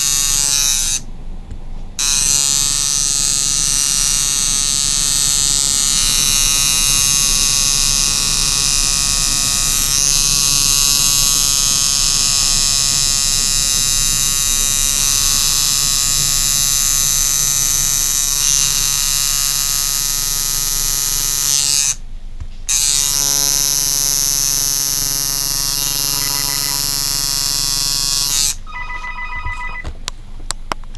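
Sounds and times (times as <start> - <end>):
tattoo machine buzzing: 0.0 - 1.1, 2.0 - 22.0, 22.7 - 29.9.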